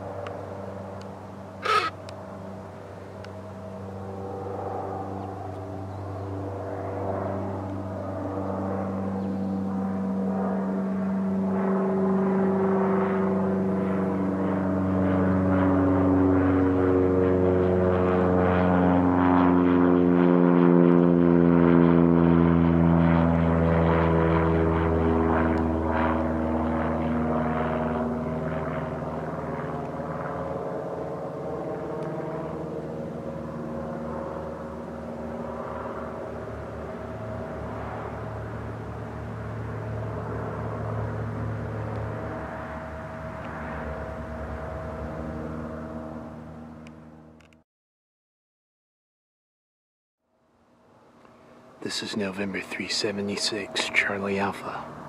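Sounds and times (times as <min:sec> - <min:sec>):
propeller plane passing overhead: 0:00.0 - 0:47.6, 0:50.2 - 0:55.0.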